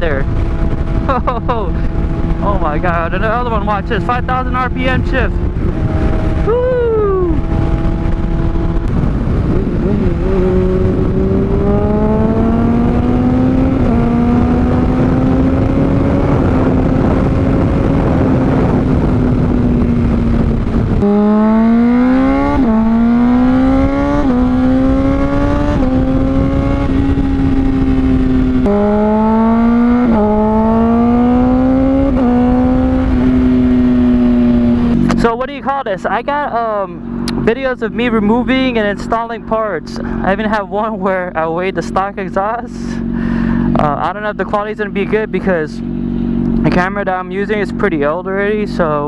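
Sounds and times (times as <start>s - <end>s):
motorcycle engine accelerating: 0.0s - 49.0s
wind rushing over microphone: 0.0s - 49.0s.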